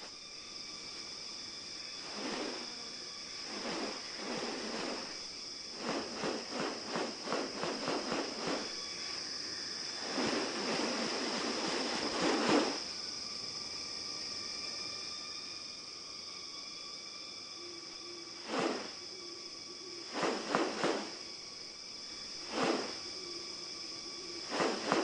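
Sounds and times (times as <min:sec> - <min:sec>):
high insect drone: 0:00.0 - 0:25.0.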